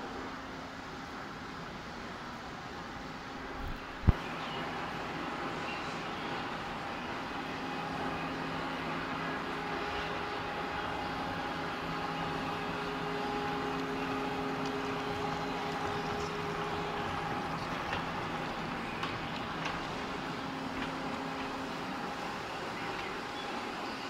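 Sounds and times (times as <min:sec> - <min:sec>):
model railway hum: 0:00.0 - 0:24.0.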